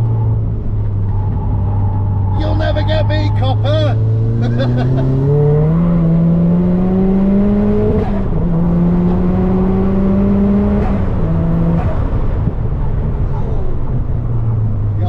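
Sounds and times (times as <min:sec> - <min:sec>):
car engine revving through gears: 0:00.0 - 0:14.8.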